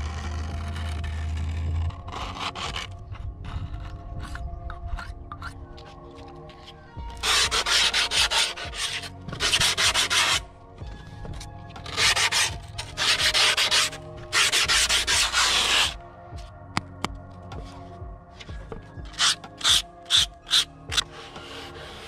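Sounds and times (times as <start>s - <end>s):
griptape scraping on skateboard: 0.0s - 16.0s, 19.0s - 22.0s.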